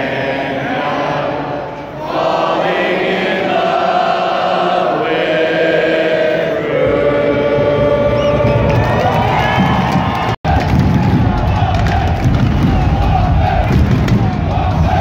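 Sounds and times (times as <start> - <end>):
crowd singing together: 0.0 - 15.0.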